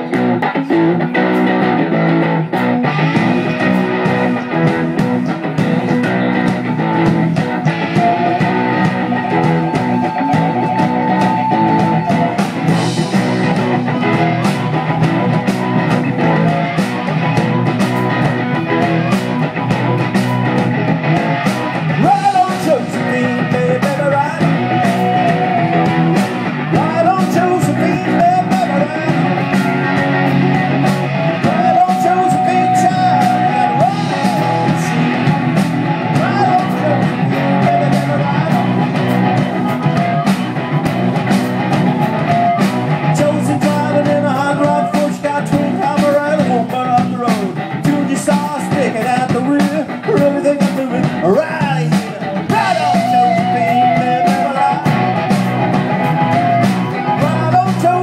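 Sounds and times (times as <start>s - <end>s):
lead guitar bending notes: 0.0s - 58.0s
live rock band playing: 0.0s - 58.0s.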